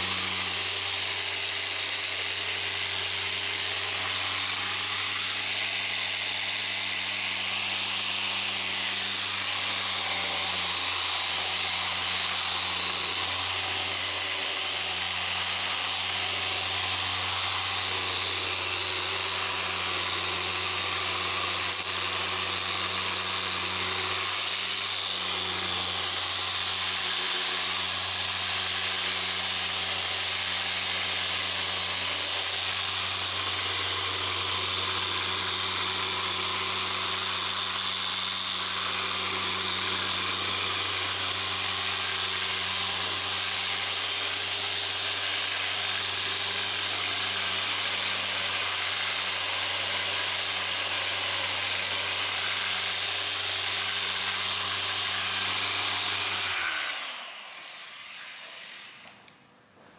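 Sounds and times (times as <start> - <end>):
orbital sander motor hum: 0.0 - 59.1.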